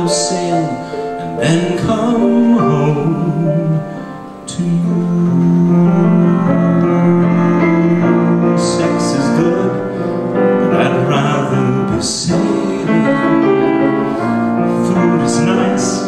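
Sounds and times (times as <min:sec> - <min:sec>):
man singing a slow ballad: 0:00.0 - 0:16.0
piano accompaniment: 0:00.0 - 0:16.0.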